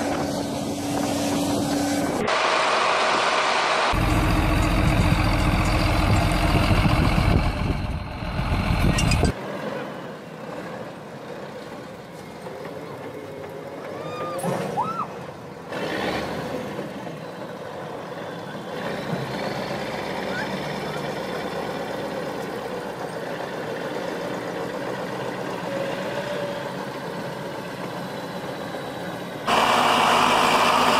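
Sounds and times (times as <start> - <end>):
heavy diesel engine running: 0.0 - 9.3, 15.4 - 30.9
distant tractor diesel engine: 0.0 - 9.4, 15.4 - 30.9.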